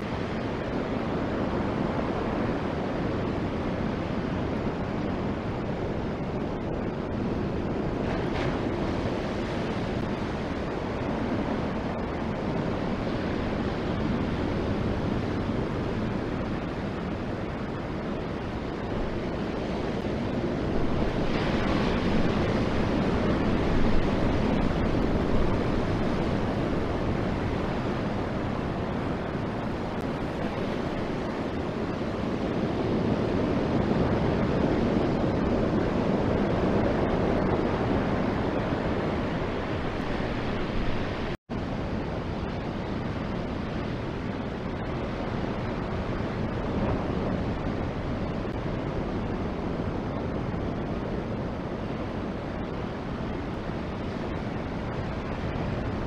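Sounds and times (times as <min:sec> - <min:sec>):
surf breaking on shore: 0:00.0 - 0:56.0.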